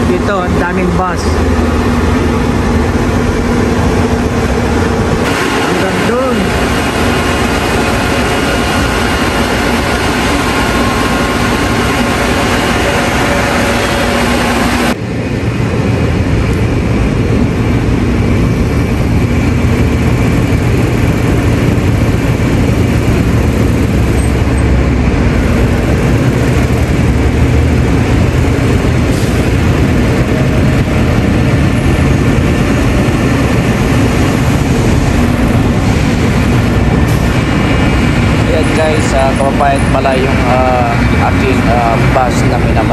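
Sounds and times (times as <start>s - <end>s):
bus traffic rumbling: 0.0s - 42.9s
buses idling: 0.0s - 42.9s
steady tones: 0.0s - 42.9s.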